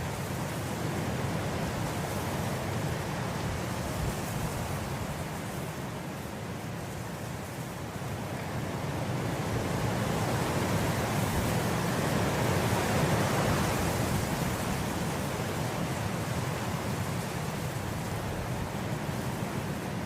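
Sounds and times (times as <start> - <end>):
wind blowing through grass: 0.0 - 20.0.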